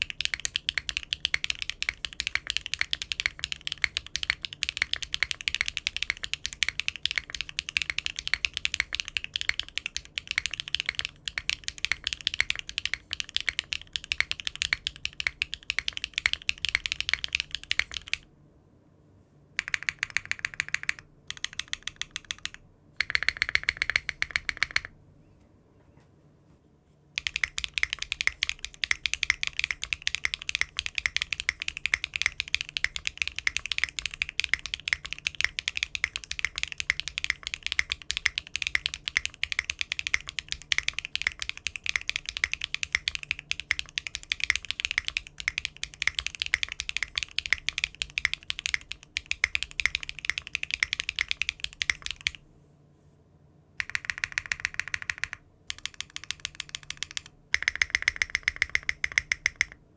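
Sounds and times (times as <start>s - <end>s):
mechanical keyboard typing: 0.0s - 18.3s, 19.6s - 24.9s, 27.2s - 52.4s, 53.8s - 59.8s.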